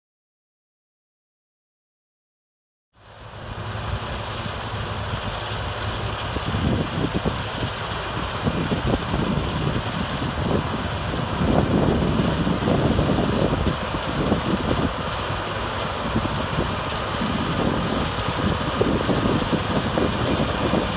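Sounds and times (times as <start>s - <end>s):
combine harvester drone: 3.0s - 20.9s
wind buffeting microphone: 3.4s - 20.9s.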